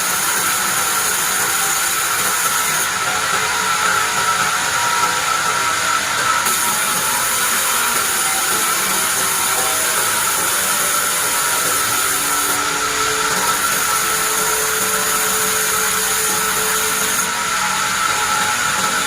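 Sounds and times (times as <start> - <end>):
band saw whining through wood: 0.0 - 19.0.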